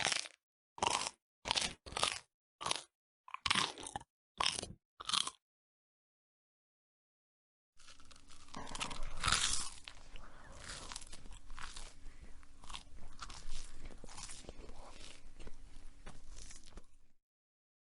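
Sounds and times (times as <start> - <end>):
person chewing food: 0.0 - 5.4, 7.8 - 17.2.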